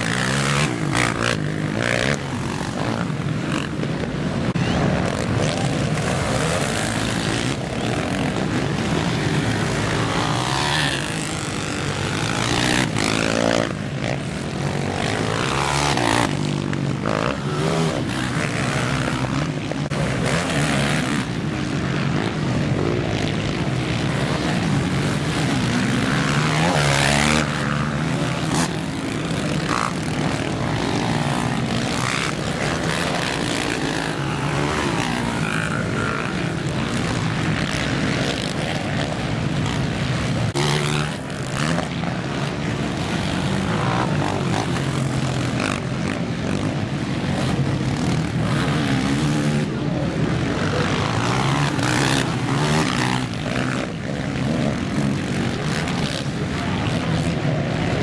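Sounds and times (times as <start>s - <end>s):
motocross engines: 0.0s - 58.0s.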